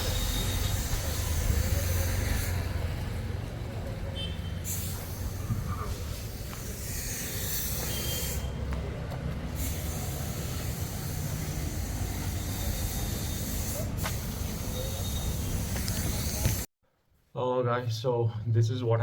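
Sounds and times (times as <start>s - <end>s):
motorcycle engine and road drone: 0.0s - 16.7s.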